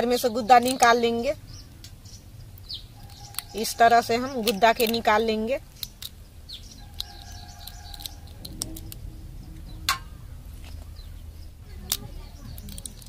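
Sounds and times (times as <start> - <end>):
birds chirping: 0.0 - 13.0
crab shells cracking: 0.4 - 1.1, 1.7 - 13.0.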